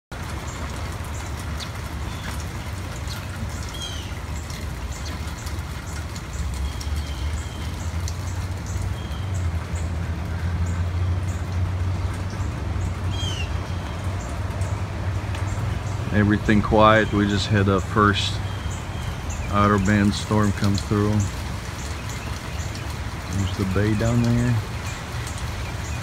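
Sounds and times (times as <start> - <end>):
light rain patter: 0.1 - 26.0
small birds chirping: 0.4 - 26.0.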